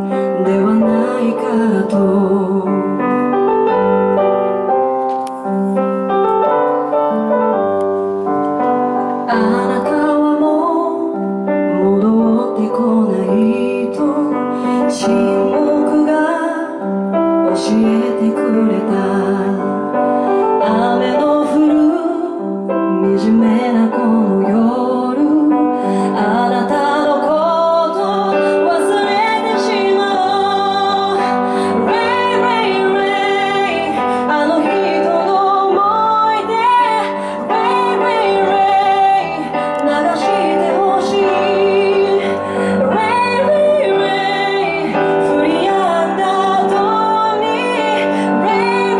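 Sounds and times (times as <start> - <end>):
woman singing a slow song: 0.0 - 3.6, 9.0 - 48.9
piano accompaniment: 0.0 - 48.9.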